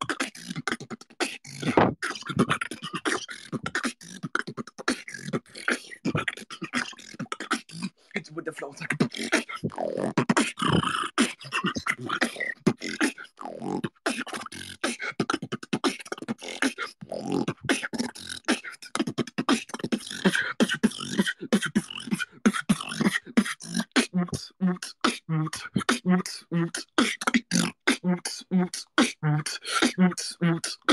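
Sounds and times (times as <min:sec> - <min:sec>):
person beatboxing: 0:00.0 - 0:30.9.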